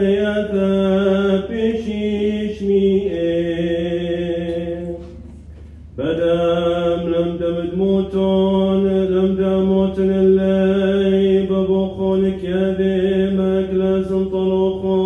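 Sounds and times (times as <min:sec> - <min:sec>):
man chanting: 0:00.0 - 0:05.3, 0:06.0 - 0:15.0.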